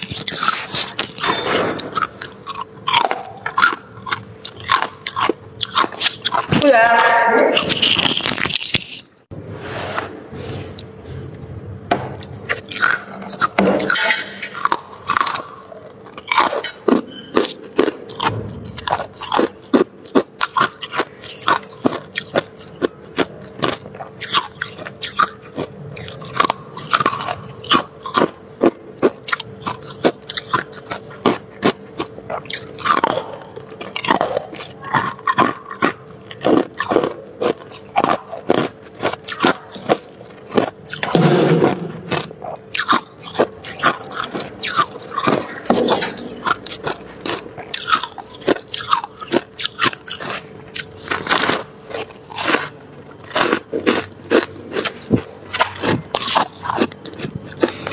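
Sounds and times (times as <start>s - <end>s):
frost crunching being chewed: 0.0s - 9.3s, 12.1s - 57.9s
steady hum: 0.0s - 57.9s.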